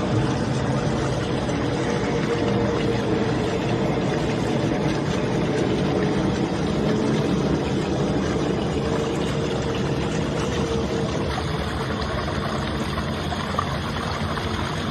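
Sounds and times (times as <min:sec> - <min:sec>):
faint steady hum: 0:00.0 - 0:14.9.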